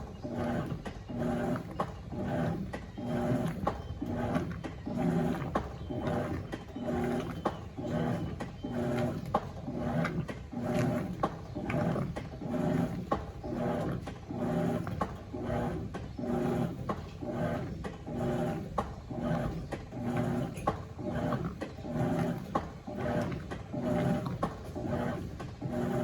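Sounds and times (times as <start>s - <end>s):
washing machine agitating: 0.0s - 26.0s.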